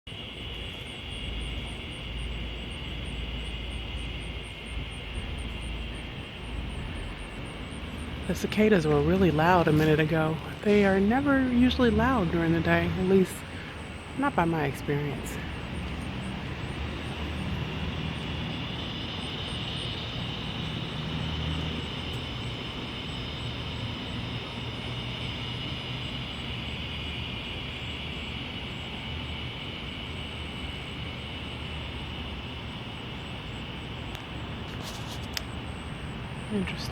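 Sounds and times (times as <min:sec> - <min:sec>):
cicadas buzzing: 0:00.1 - 0:36.9.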